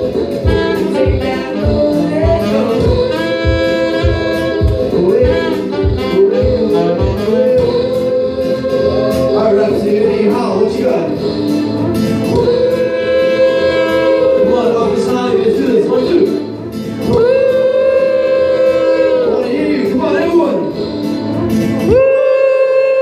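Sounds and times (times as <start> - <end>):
beatbox beat: 0.0 - 23.0
layered vocals: 0.0 - 23.0
saxophone melody: 0.0 - 23.0.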